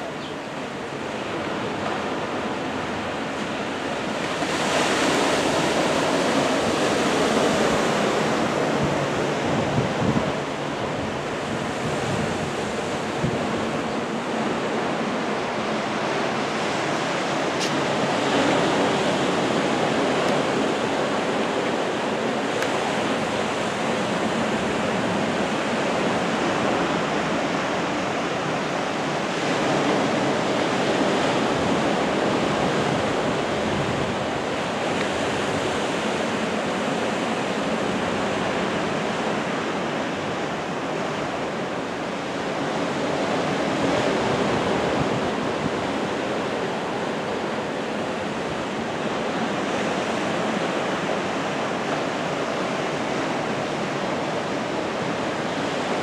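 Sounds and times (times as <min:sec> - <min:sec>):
choppy sea water rushing: 0:00.0 - 0:56.0
wind: 0:00.0 - 0:56.0.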